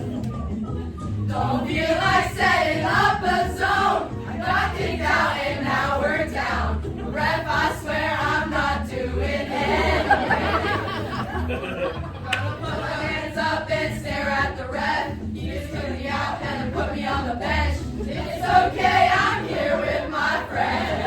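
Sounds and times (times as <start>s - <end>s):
girls singing together: 1.2s - 11.5s, 12.3s - 21.0s.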